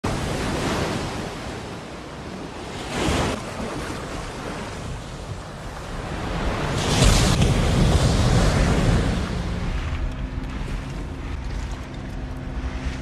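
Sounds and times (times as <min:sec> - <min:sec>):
surf waves rushing: 0:00.0 - 0:13.0.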